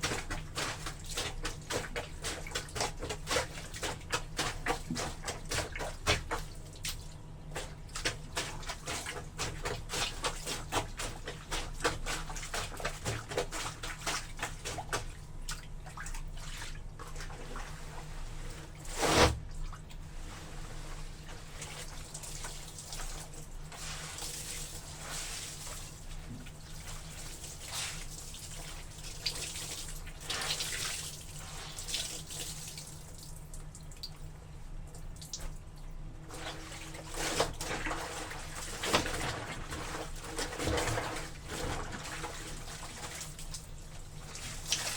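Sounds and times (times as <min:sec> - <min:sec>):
laundry sloshing in water: 0:00.0 - 0:44.9.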